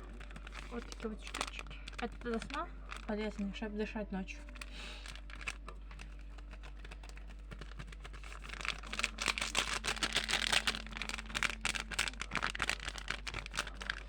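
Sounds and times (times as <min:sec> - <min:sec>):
plastic or paper crinkling: 0:00.0 - 0:03.7, 0:04.3 - 0:14.0
low background hum: 0:00.0 - 0:14.0.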